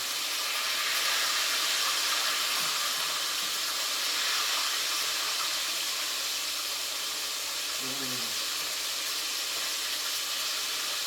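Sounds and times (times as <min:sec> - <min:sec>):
chicken frying in grease: 0:00.0 - 0:11.0.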